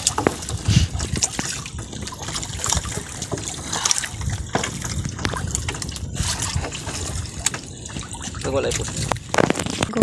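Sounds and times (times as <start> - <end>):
water splashes: 0.0 - 10.0
water trickling and dripping: 0.0 - 10.0.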